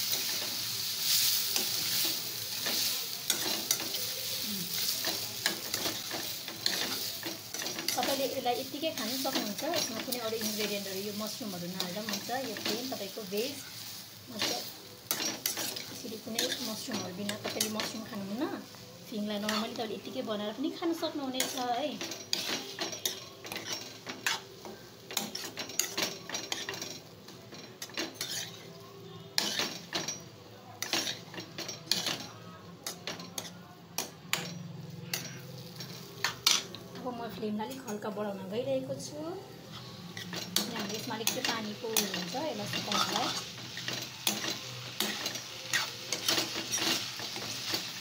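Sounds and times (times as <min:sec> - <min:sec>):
spatula scraping a steel wok: 0:00.0 - 0:18.7, 0:19.3 - 0:27.1, 0:27.7 - 0:28.7, 0:29.4 - 0:30.2, 0:30.8 - 0:36.8, 0:39.6 - 0:48.0
light sizzle: 0:00.0 - 0:48.0.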